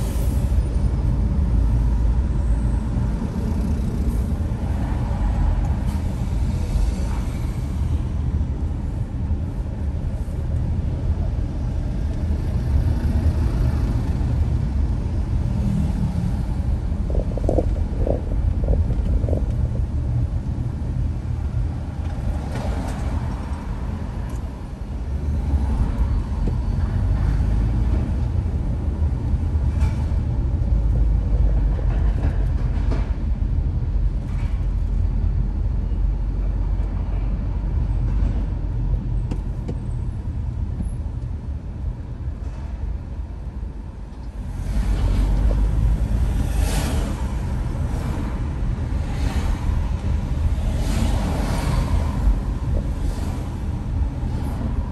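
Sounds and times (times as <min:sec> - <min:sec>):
passing vehicles whooshing: 0:00.0 - 0:39.1, 0:43.7 - 0:54.9
car road and engine rumble: 0:00.0 - 0:54.9.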